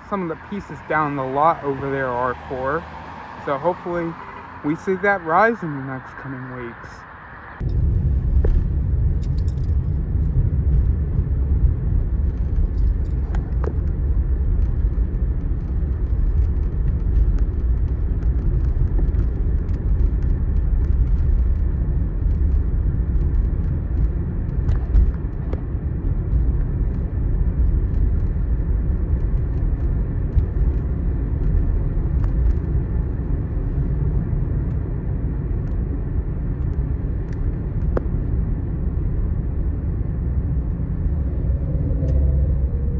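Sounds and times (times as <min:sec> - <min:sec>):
low rumble: 0:07.0 - 0:42.9.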